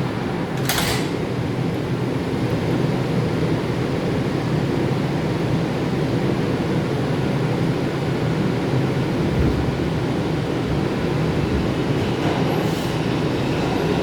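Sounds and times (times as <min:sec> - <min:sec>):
subway train running: 0:00.0 - 0:14.0.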